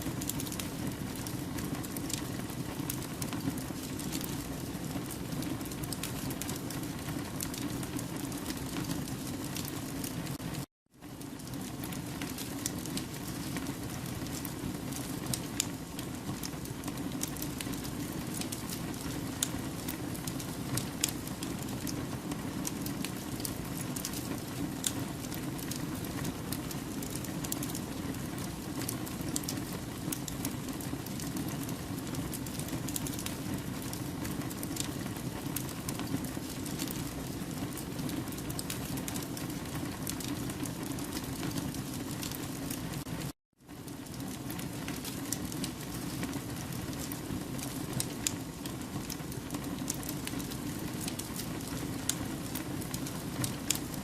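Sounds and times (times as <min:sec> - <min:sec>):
campfire flames rushing: 0:00.0 - 0:10.5, 0:11.1 - 0:54.0
burning logs crackling and popping: 0:00.0 - 0:54.0.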